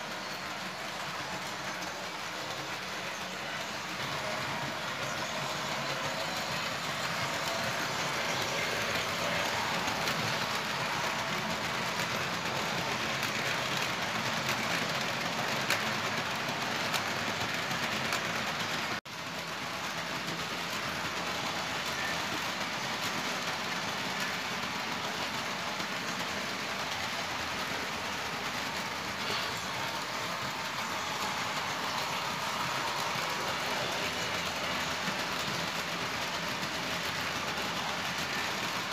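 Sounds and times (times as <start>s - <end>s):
model train rolling on track: 0.0s - 38.9s.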